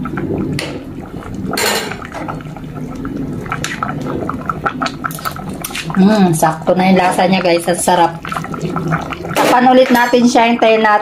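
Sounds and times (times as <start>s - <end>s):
liquid bubbling in a pot: 0.0s - 11.0s.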